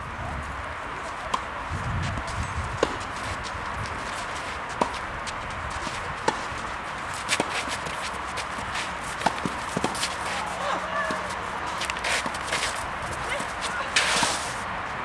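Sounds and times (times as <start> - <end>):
light footsteps on court: 0.2 - 15.0
tennis ball struck by rackets: 2.1 - 14.6.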